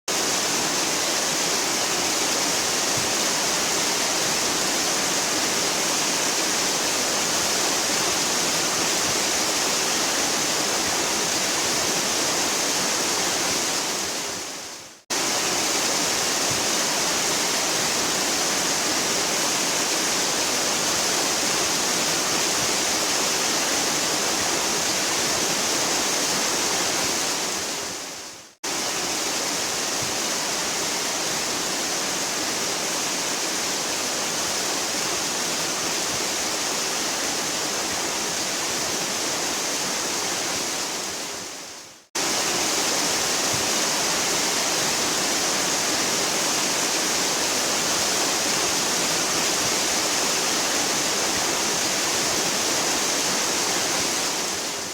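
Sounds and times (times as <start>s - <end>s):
waterfall rushing: 0.1s - 54.9s.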